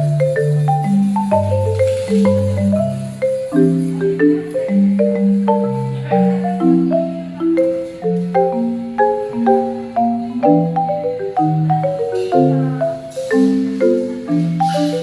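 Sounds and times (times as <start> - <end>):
gentle instrumental music: 0.0 - 15.0.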